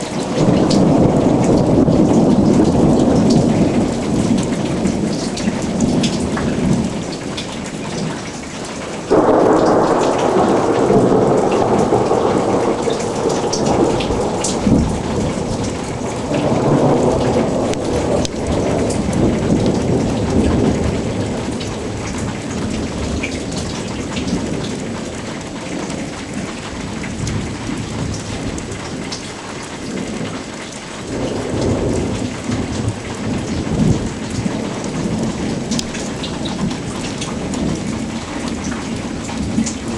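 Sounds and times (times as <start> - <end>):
thunder rumbling: 0.0 - 30.4, 31.0 - 39.9
steady rain falling: 0.0 - 39.9.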